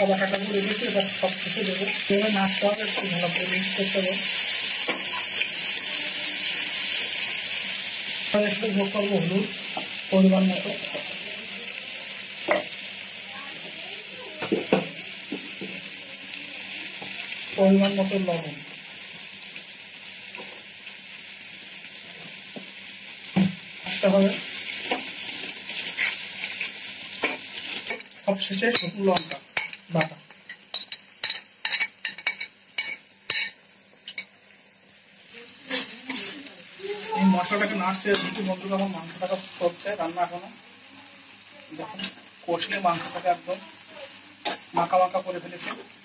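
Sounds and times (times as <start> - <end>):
paste sizzling in hot oil: 0.0 - 46.0.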